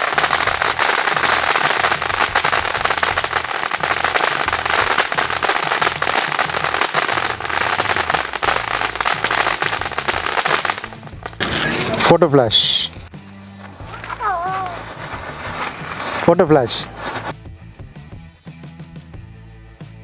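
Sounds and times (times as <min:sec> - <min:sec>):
firework crackling and hissing: 0:00.0 - 0:17.4.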